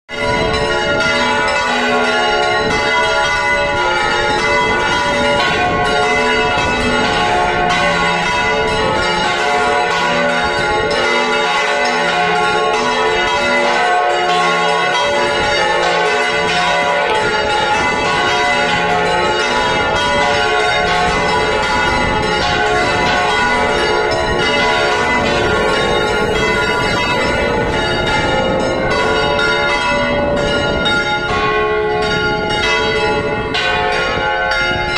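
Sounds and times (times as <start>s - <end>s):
church bells pealing: 0.1s - 34.9s.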